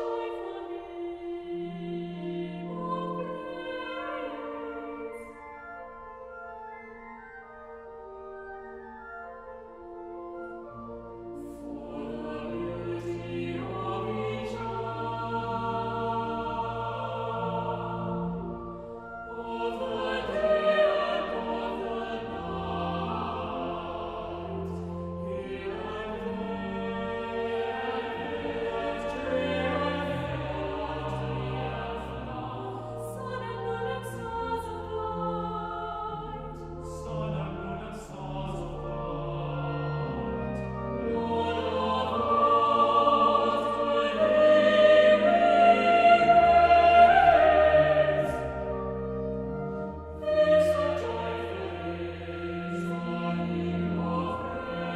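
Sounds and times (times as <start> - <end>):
choir singing: 0.0 - 5.6, 10.5 - 54.9.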